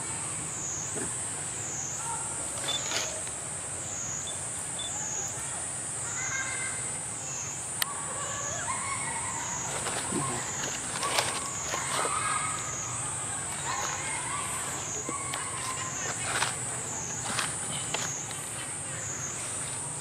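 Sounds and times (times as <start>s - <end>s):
insect drone high whine: 0.0s - 20.0s.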